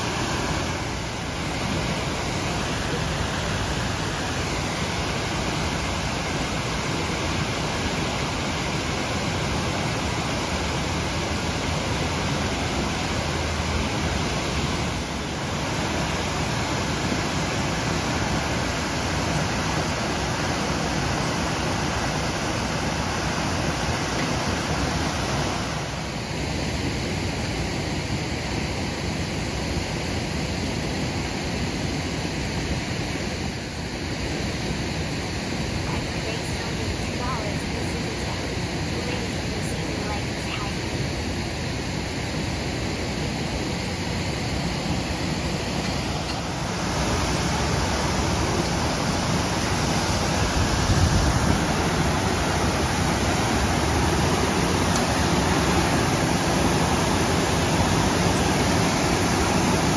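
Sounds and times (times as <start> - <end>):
water gushing from a hydrant: 0.0 - 59.9.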